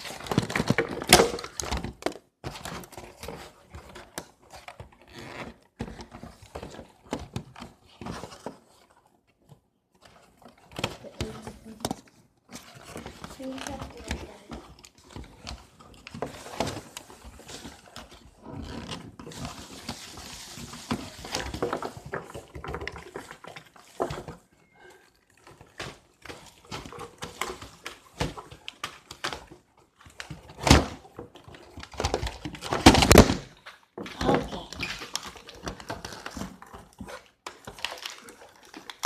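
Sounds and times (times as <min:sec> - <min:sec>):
packaging rustling: 0:00.0 - 0:39.0.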